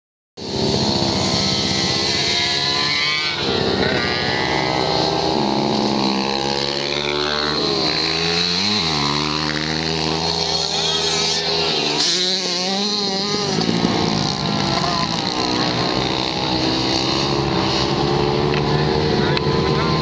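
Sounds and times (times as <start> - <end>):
dirt bike engine revving: 0.4 - 20.0.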